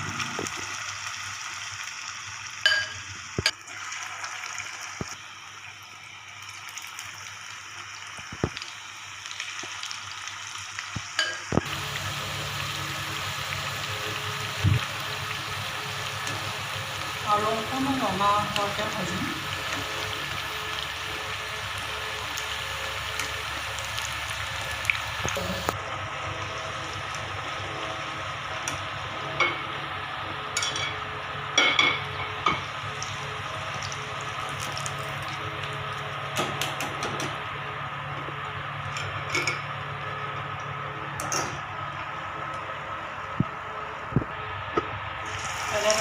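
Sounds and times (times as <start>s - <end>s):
food sizzling in oil: 0.0s - 37.5s, 45.2s - 46.0s.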